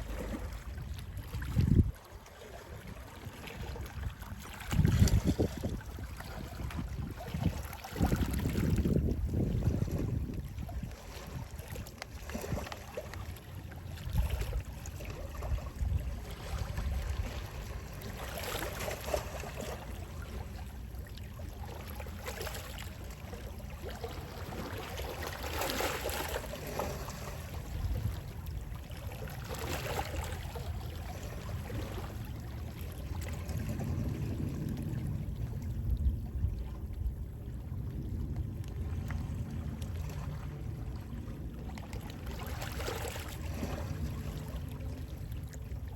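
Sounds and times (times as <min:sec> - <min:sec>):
low rumble of sea wind: 0:00.0 - 0:45.9
small sea waves washing: 0:00.0 - 0:45.9.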